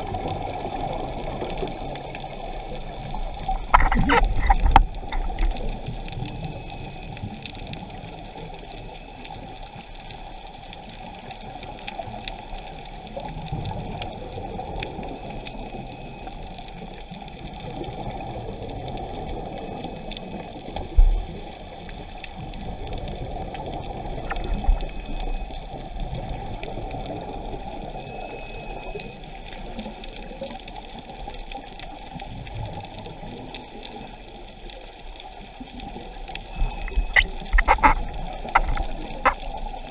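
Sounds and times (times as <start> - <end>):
moving water: 0.0 - 39.9
underwater exhaled bubbles: 0.0 - 39.9.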